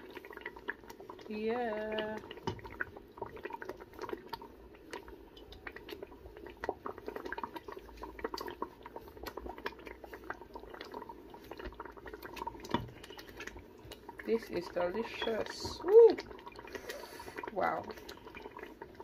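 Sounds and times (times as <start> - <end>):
thick sauce bubbling and popping: 0.0 - 19.0.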